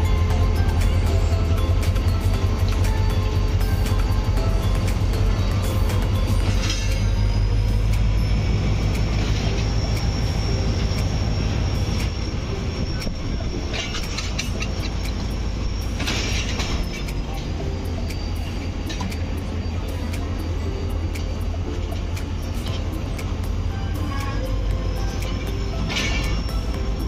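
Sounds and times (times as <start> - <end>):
high-pitched squeal: 0.0 - 27.0
train rumbling: 0.0 - 27.0.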